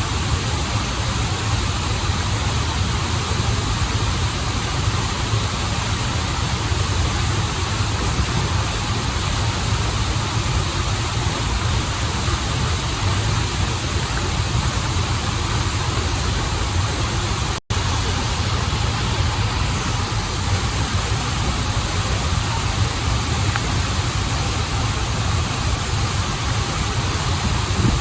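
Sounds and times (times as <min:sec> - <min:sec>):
waterfall and flowing stream: 0:00.0 - 0:28.0.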